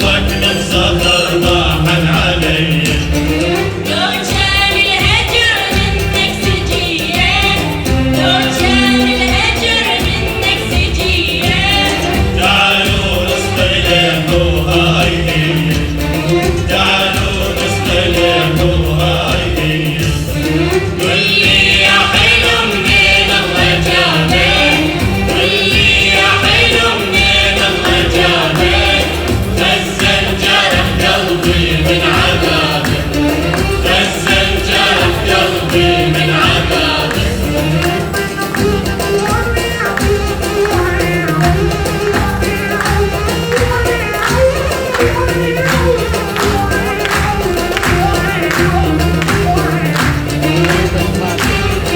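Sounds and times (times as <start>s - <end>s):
choir singing folk music: 0.0s - 51.9s
percussion with steady beat: 0.0s - 51.9s.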